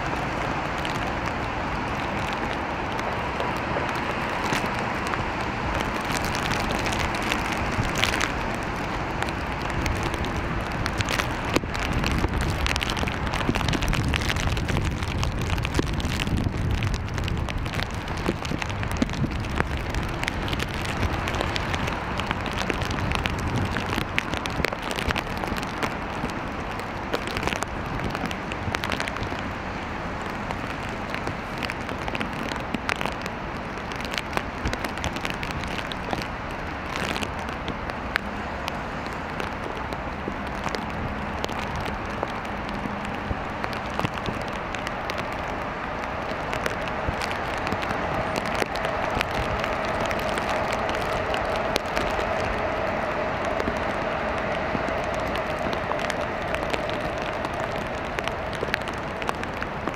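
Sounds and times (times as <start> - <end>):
rain on pavement and foliage: 0.0 - 59.9.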